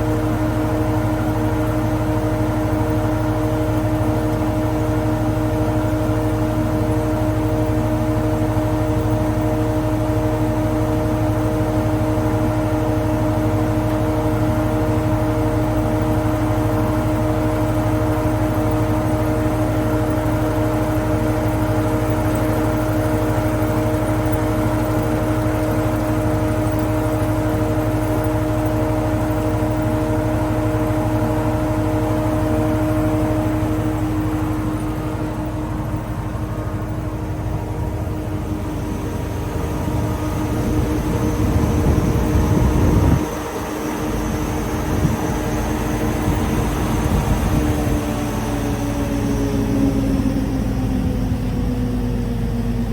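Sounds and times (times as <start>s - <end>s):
wood planer humming and whining: 0.0s - 52.9s.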